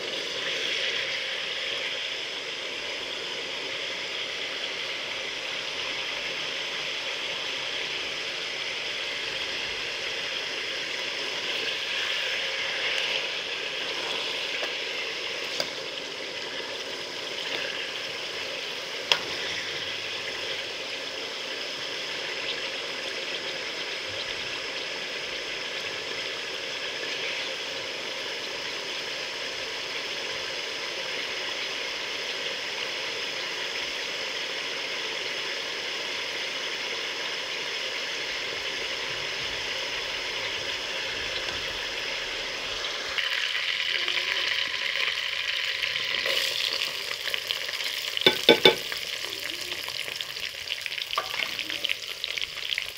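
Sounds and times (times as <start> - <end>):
chicken sizzling in oil: 0.0 - 52.9.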